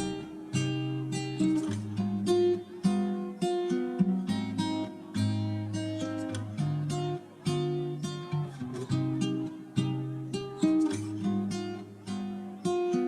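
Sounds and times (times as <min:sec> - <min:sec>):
acoustic guitar plucked melody: 0:00.0 - 0:13.0.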